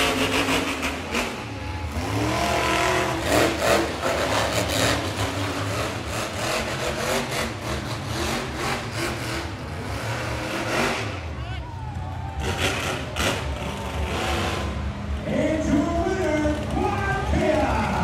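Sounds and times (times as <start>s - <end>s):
monster truck engines revving: 0.0s - 18.0s.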